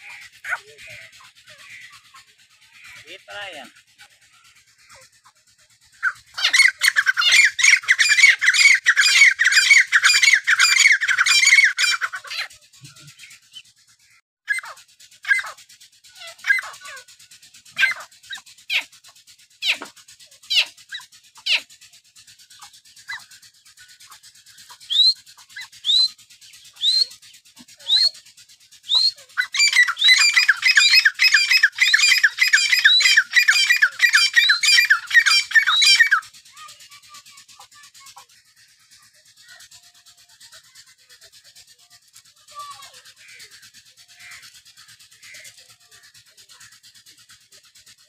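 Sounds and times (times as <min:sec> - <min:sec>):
francolins calling: 0:00.0 - 0:48.0.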